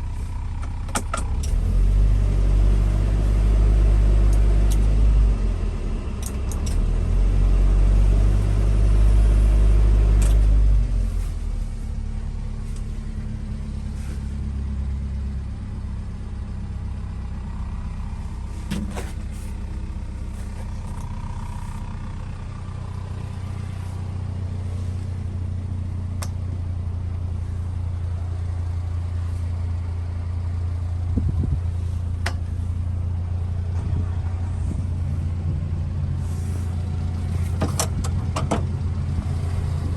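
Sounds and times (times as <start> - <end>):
truck engine revving and idling: 0.0 - 39.9.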